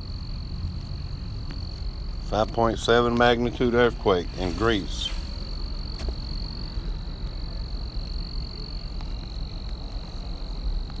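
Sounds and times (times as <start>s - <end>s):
animals trilling at night: 0.0s - 10.9s.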